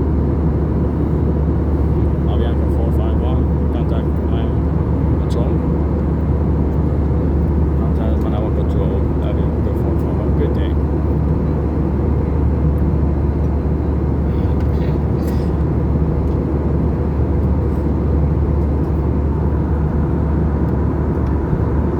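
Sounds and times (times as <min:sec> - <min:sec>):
airplane cabin drone: 0:00.0 - 0:21.9.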